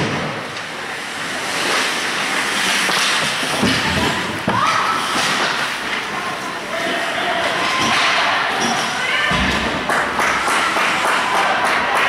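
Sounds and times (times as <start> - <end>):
skates and sticks scraping ice: 0.1 - 11.7.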